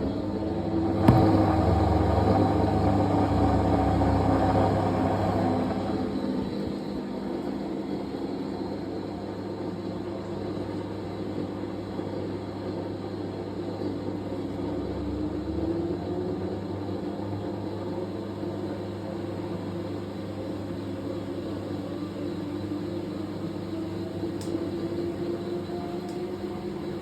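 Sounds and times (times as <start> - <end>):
washing machine humming: 0.4 - 27.0.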